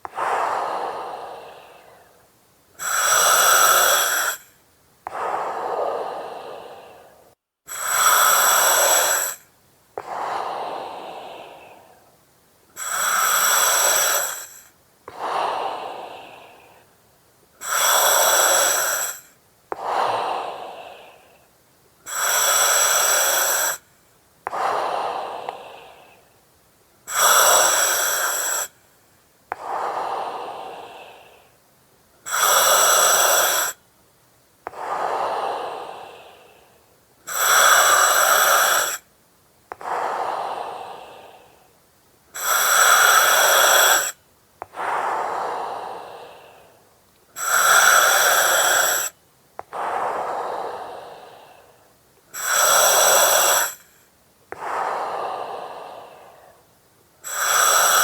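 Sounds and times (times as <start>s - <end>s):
breathing through oxygen mask: 0.0s - 2.2s, 2.8s - 12.1s, 12.8s - 16.9s, 17.6s - 23.9s, 24.5s - 26.2s, 27.1s - 28.8s, 32.2s - 33.8s, 34.7s - 39.0s, 39.7s - 41.7s, 42.4s - 46.8s, 47.4s - 51.8s, 52.4s - 56.6s, 57.2s - 58.0s.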